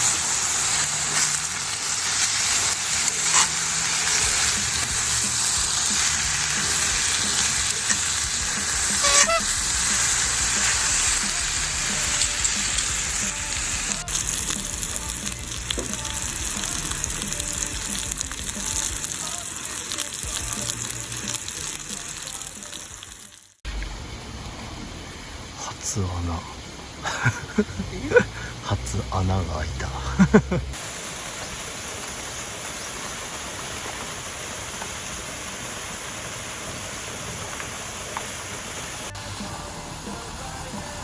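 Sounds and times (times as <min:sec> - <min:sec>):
rice sizzling in a pan: 0:00.0 - 0:23.6, 0:30.8 - 0:41.0.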